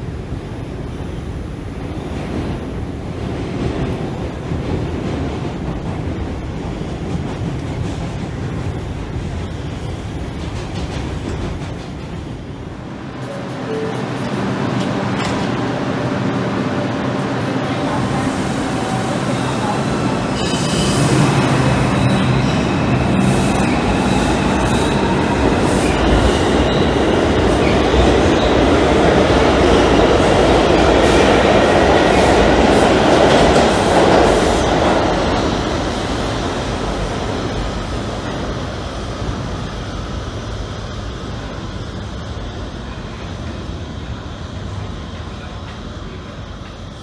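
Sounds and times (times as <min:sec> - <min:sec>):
subway train running: 0:00.0 - 0:47.0.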